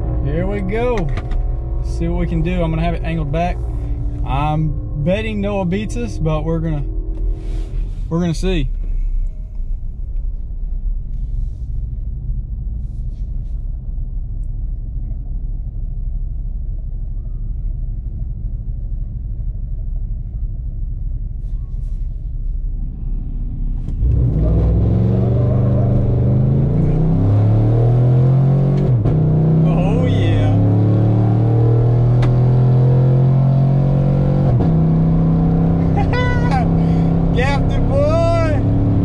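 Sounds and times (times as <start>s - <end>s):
truck engine idling and accelerating: 0.0s - 39.0s.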